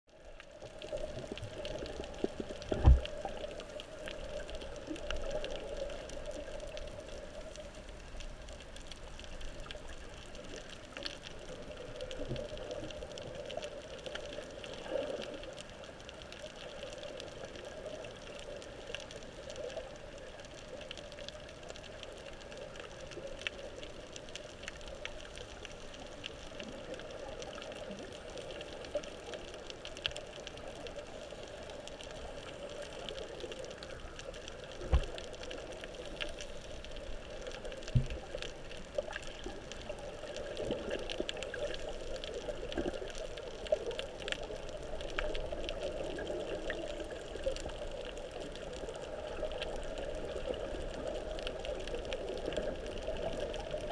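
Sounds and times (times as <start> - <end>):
faint underwater clicks: 0.1 - 53.9
muffled underwater wash: 0.1 - 53.9.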